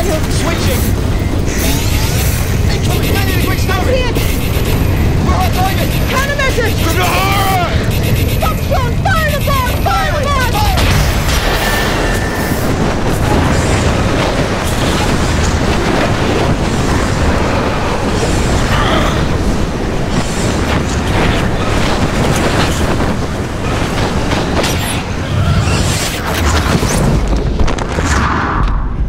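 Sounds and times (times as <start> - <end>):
loud rumble and rattle: 0.0 - 29.0.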